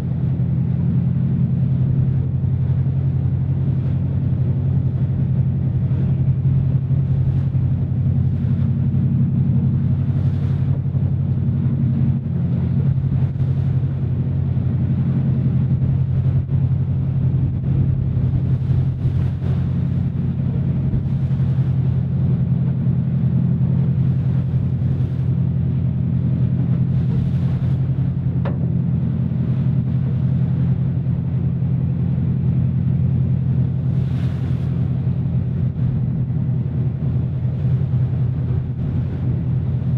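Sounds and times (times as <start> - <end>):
boat engine drone: 0.0 - 39.9
water rushing past hull: 0.0 - 39.9
water splashes: 0.0 - 39.9.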